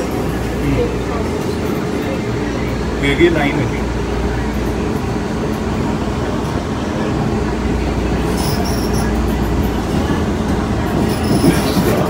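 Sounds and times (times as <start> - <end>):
rumble of train wheels on rail: 0.0 - 12.0.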